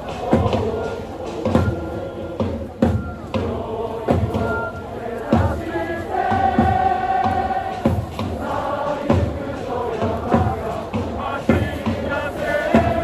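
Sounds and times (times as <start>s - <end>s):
crowd singing in unison: 0.0s - 13.0s
heavy drum beats: 0.0s - 13.0s.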